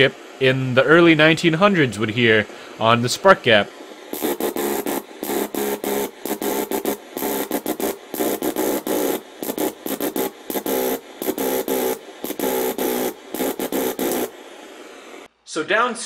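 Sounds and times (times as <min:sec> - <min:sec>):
radio static buzzing pulses: 0:00.0 - 0:15.3.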